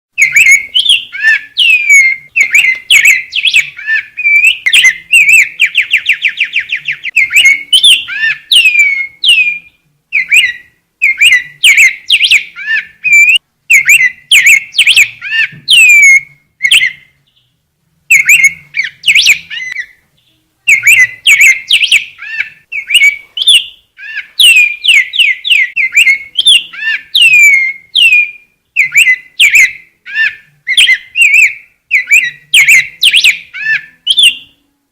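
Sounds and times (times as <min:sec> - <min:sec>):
bird singing whistled notes: 0:00.2 - 0:34.8.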